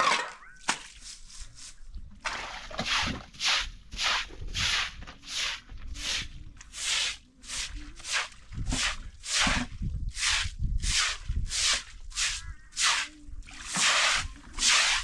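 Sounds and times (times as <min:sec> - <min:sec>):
broom sweeping water: 0:00.8 - 0:15.0.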